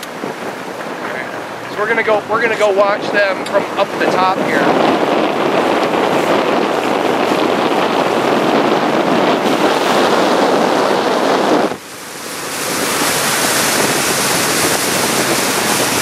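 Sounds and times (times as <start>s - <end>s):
water rushing past boat hull: 0.0s - 16.0s
wind buffeting microphone: 0.0s - 16.0s.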